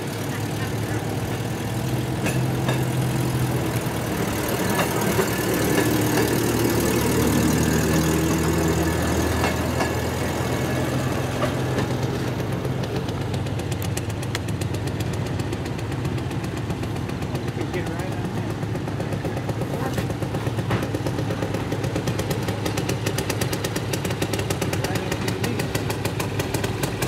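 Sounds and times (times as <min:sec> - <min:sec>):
locomotive engine humming: 0:00.0 - 0:27.0.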